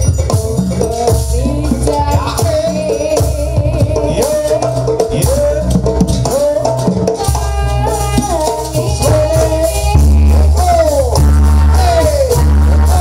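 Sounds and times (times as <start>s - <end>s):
drums and percussion: 0.0s - 13.0s
heavy low bass: 0.0s - 13.0s.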